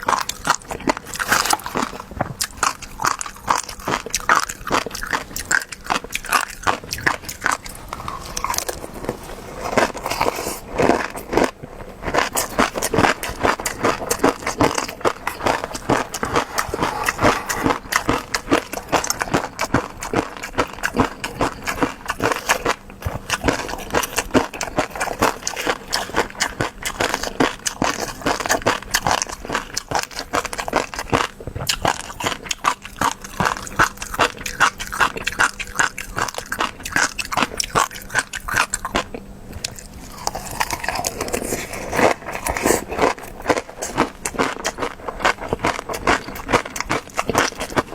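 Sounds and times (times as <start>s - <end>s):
chewing with wet clicks: 0.0s - 8.9s, 9.8s - 47.9s.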